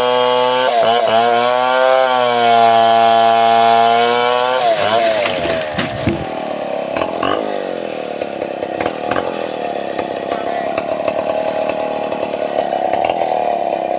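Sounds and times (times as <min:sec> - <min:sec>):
chainsaw engine running: 0:00.0 - 0:13.9.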